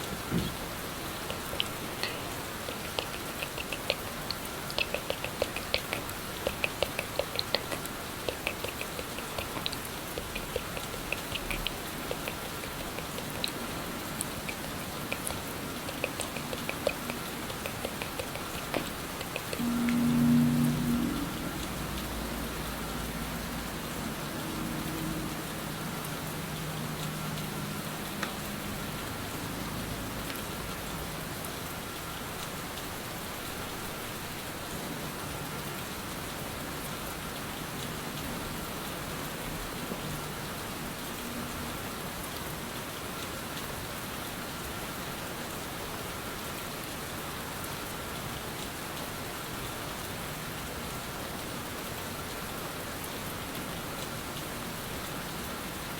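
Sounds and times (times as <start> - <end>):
steady rain patter: 0.0 - 55.9.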